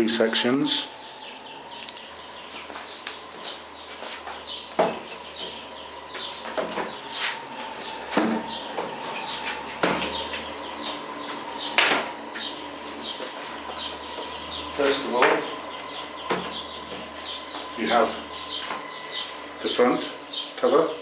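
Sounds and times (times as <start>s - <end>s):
birds chirping faintly: 0.0s - 21.0s
sandalled footsteps on tiled floor: 0.8s - 19.5s.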